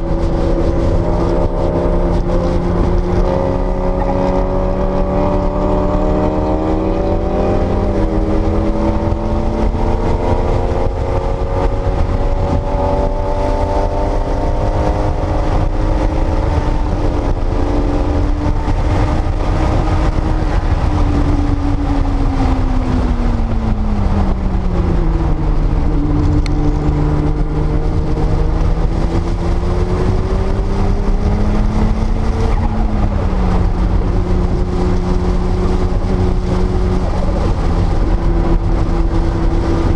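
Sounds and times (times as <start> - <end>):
car engine accelerating: 0.0 - 39.9
heavy low rumble: 0.0 - 39.9.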